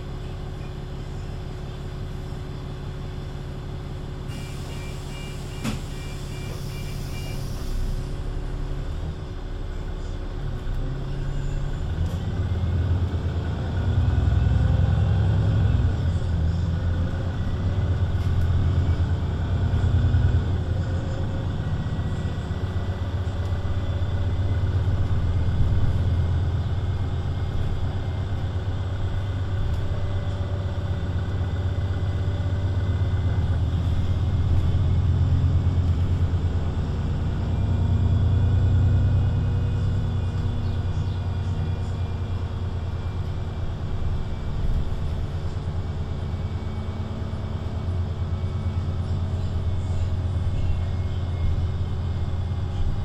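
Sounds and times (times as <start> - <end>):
bus diesel engine rumbling: 0.0 - 53.0.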